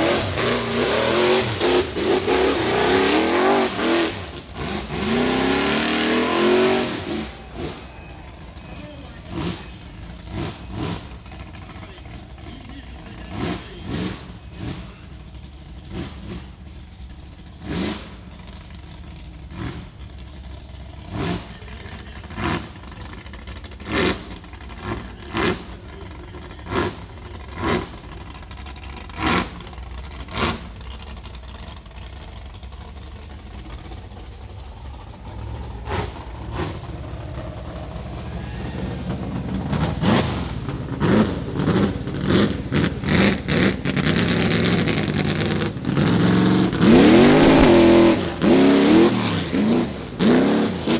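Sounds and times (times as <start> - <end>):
buggy engine revving: 0.0 - 50.9.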